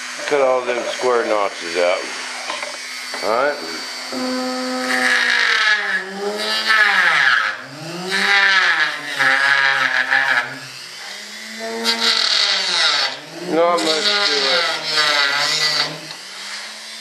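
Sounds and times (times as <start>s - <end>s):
rotary tool whining while cutting: 0.0s - 17.0s.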